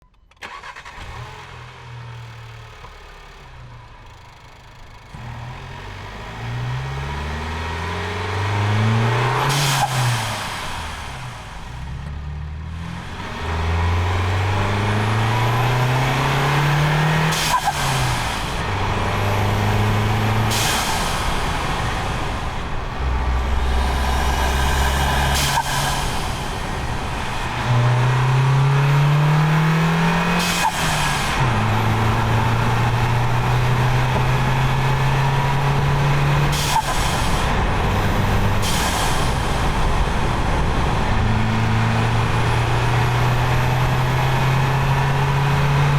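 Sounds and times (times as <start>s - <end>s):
car engine accelerating through gears: 4.3s - 45.9s.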